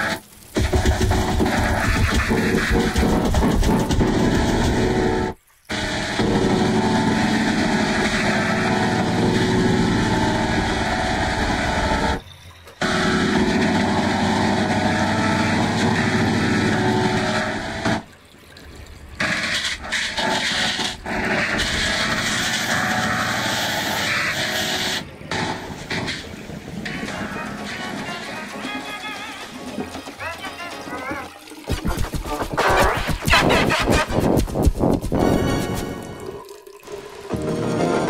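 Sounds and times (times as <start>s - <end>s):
distorted noisy wash with held tones: 0.0s - 18.1s, 19.2s - 38.0s.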